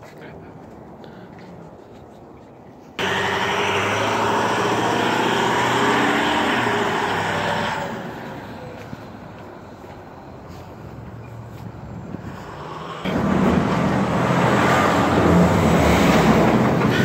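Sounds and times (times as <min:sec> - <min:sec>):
bus driving past: 0:02.6 - 0:17.0.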